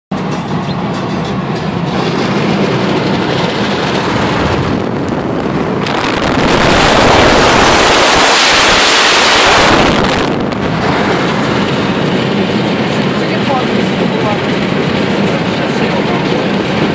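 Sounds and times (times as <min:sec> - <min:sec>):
car road and engine rumble: 0:00.1 - 0:16.9
loud wind rush: 0:00.1 - 0:16.9.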